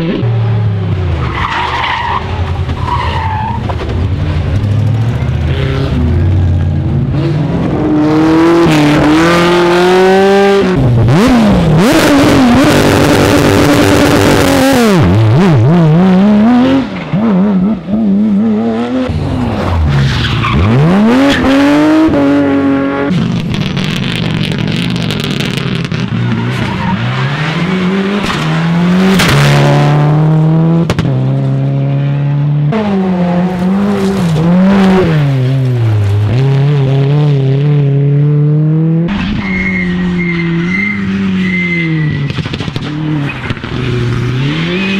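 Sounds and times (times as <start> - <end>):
rally car engines revving: 0.0 - 44.9
tyres skidding: 0.2 - 31.7, 39.0 - 44.9.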